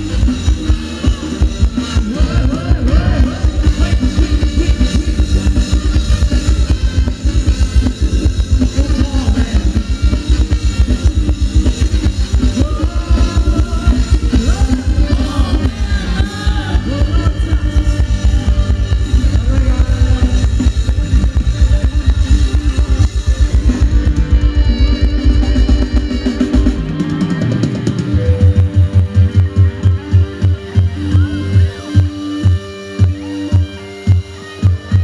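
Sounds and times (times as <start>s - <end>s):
person singing: 0.0s - 7.7s, 8.6s - 32.4s
fast steady drum beat: 0.0s - 35.0s
live band dance music: 0.0s - 35.0s.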